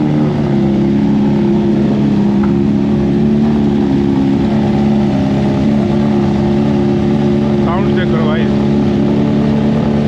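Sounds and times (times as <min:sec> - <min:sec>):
motorcycle engine at steady revs: 0:00.0 - 0:10.0.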